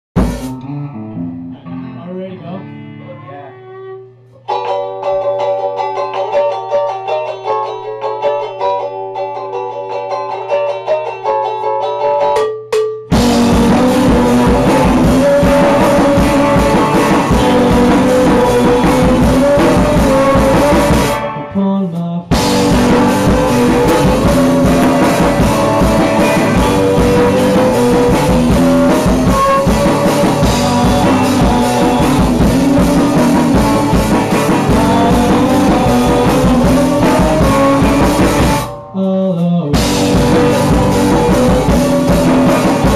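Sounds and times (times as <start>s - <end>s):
guitar picking notes: 0.2s - 42.9s
rock band playing: 0.2s - 42.9s.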